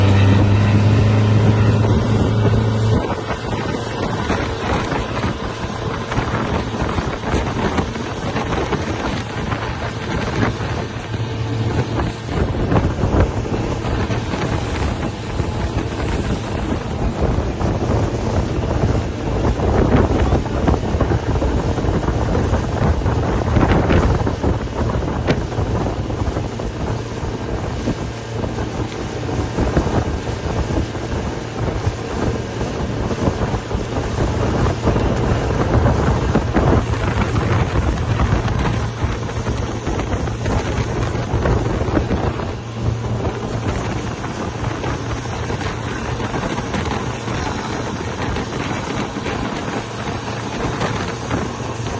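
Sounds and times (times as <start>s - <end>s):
model boats running on water: 0.0s - 51.9s
wind buffeting microphone: 0.0s - 51.9s.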